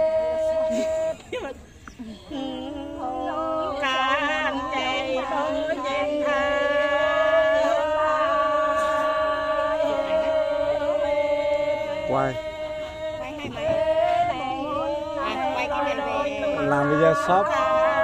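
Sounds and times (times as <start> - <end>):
voices chanting together: 0.0 - 18.0.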